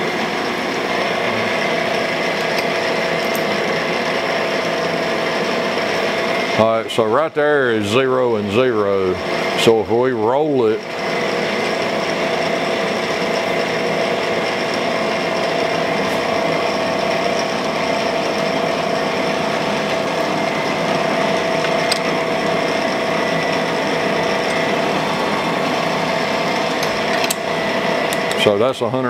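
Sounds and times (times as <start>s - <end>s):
grinder humming and whining: 0.0s - 29.0s.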